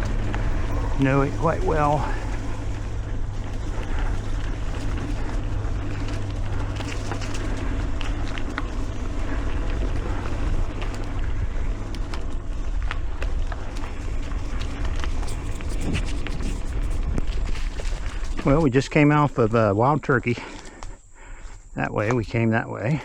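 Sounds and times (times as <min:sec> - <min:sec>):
wind on microphone: 0:00.0 - 0:19.6
bike clicks and rattles: 0:00.0 - 0:23.0
bike tyres rumbling on dirt: 0:00.0 - 0:23.0.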